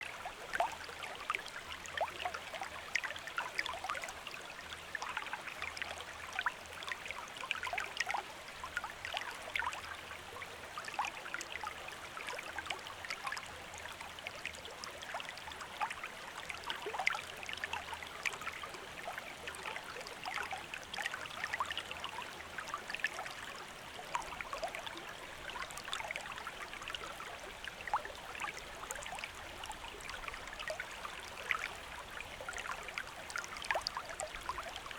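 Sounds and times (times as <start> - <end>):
stream water bubbling over stones: 0.0 - 34.9.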